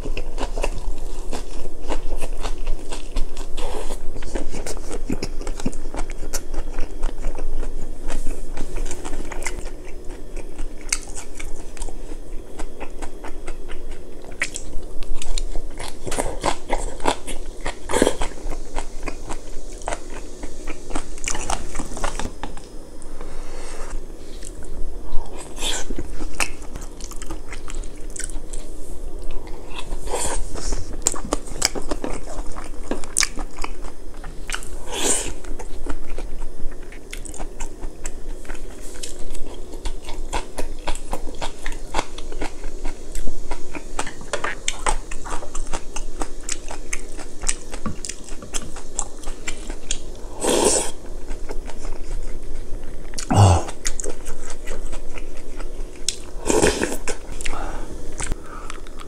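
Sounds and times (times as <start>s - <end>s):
chewing and biting food: 0.0s - 22.7s, 24.4s - 59.0s.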